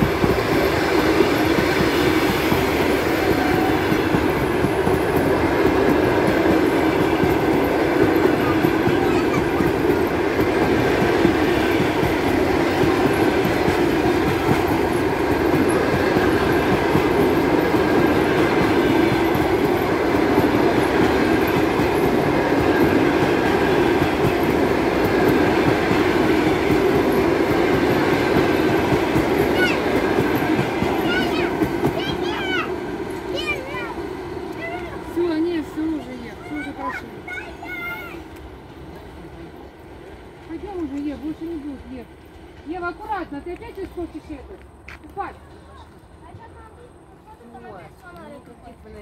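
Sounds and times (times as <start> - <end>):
train wheels on rails: 0.0 - 49.0.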